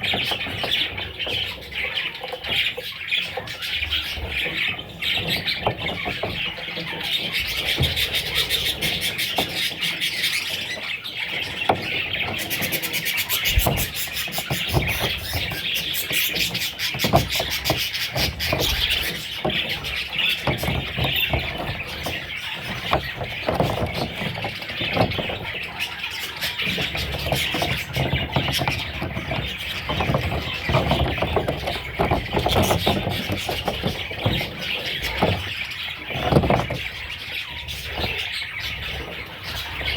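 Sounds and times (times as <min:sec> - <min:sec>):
bird chicks chattering: 0:00.0 - 0:39.9.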